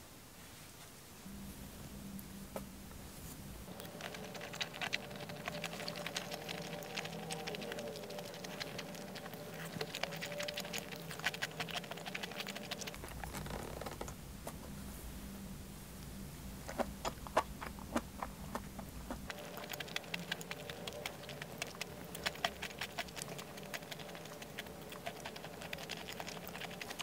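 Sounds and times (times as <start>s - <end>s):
chewing with moist crackles: 3.7s - 14.6s, 16.0s - 27.0s.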